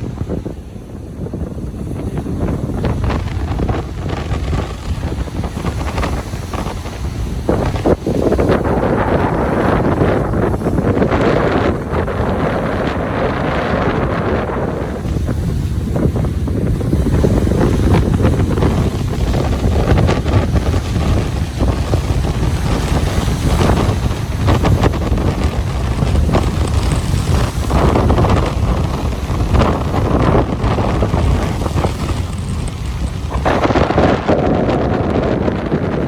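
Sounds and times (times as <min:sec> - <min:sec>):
ocean waves breaking: 0:00.0 - 0:36.0
wind buffeting microphone: 0:00.0 - 0:36.0.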